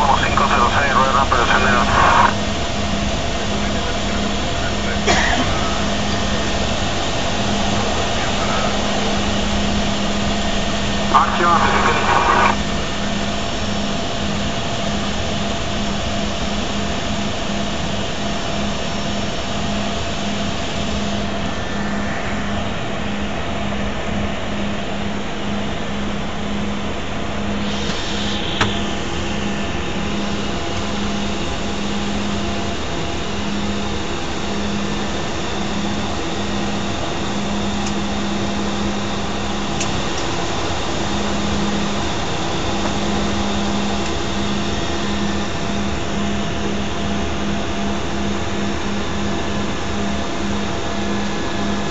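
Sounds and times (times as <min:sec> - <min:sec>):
turboprop engine and propeller droning: 0:00.0 - 0:51.9.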